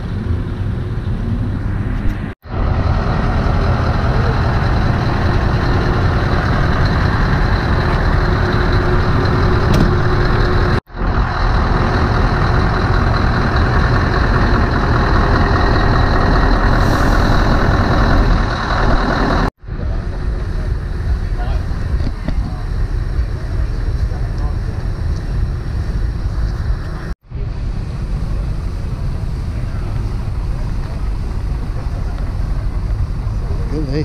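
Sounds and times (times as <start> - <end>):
heavy truck engine running: 0.0 - 34.0.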